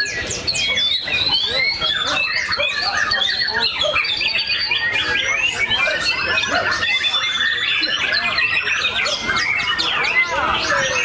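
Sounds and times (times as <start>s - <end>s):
birds singing whistles and chirps: 0.0s - 11.0s.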